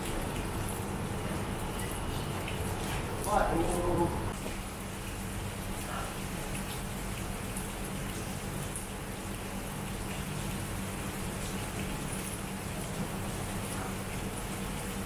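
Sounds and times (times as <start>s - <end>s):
faint scattered drips: 0.0s - 15.0s
steady rain falling: 0.0s - 15.0s.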